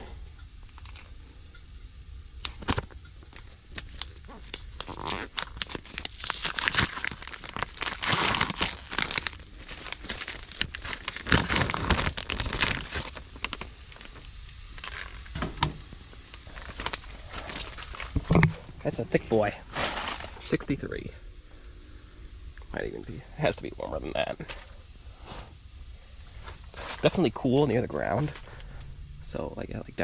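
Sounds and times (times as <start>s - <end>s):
rustling and crinkling: 2.4s - 21.7s, 23.7s - 29.5s.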